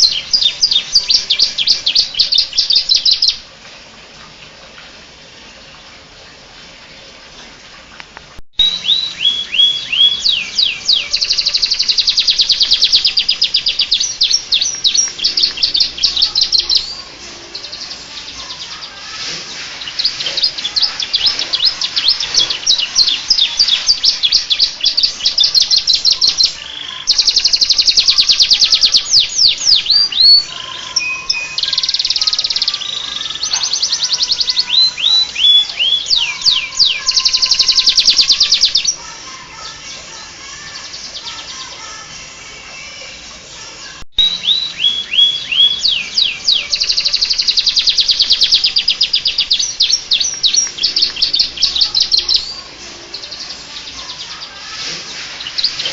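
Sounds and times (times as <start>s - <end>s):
canary singing trills: 0.0s - 3.5s, 8.6s - 43.3s, 44.2s - 55.9s.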